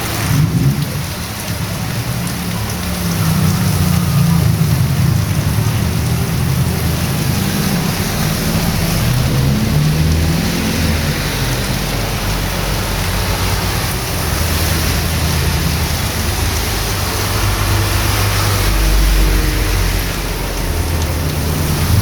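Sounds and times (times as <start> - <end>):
heavy rain on a street: 0.0 - 22.0
passing vehicle engine hum: 0.0 - 22.0.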